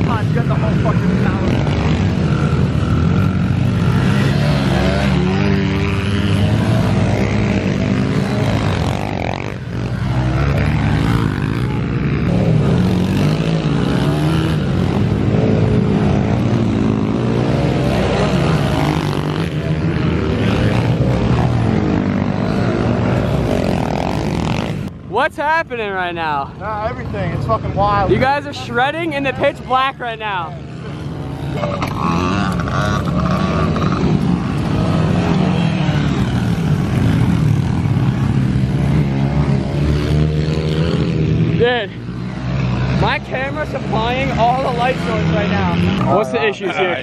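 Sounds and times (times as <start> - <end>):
small motorbike engines revving: 0.0 - 47.0.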